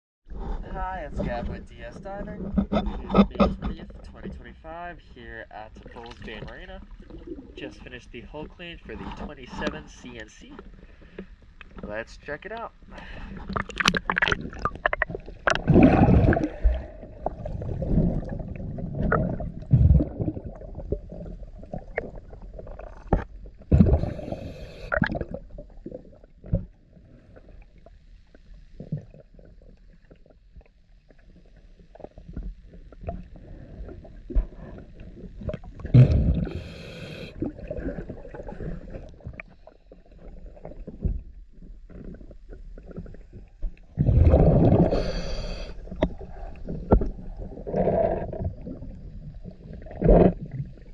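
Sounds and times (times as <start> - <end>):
low underwater rumbling: 0.3 - 50.9
regulator bubbles gurgling underwater: 5.5 - 9.8, 12.6 - 50.9.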